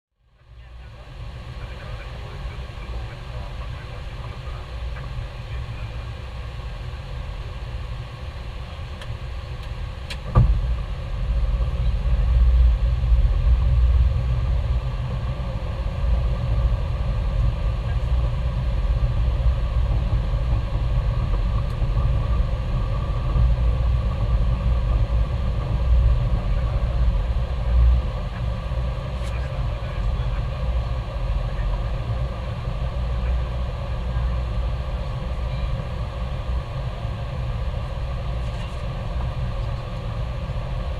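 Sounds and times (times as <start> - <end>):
low rumble of airflow and engines: 0.1 - 40.9.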